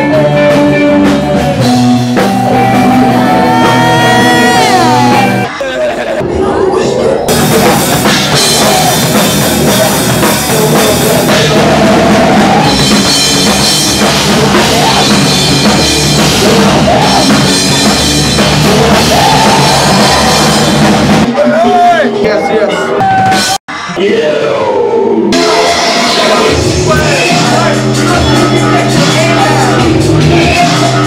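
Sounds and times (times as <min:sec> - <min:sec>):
drum kit pounding: 0:00.0 - 0:05.6, 0:07.3 - 0:23.9, 0:25.3 - 0:31.0
live rock band playing: 0:00.0 - 0:05.6, 0:07.3 - 0:23.9, 0:25.3 - 0:31.0
guitar: 0:00.0 - 0:24.0, 0:25.2 - 0:31.0.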